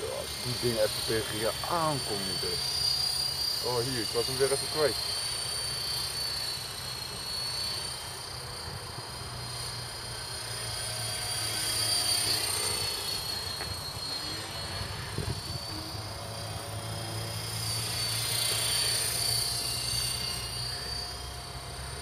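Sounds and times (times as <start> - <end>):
rc helicopter whine: 0.0 - 22.0.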